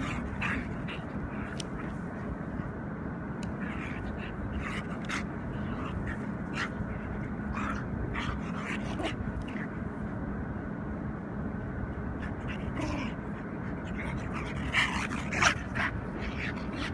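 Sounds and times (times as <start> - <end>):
dogs play-wrestling noises: 0.0 - 2.8, 3.5 - 10.1, 12.0 - 16.9
steady low hum: 0.0 - 16.9.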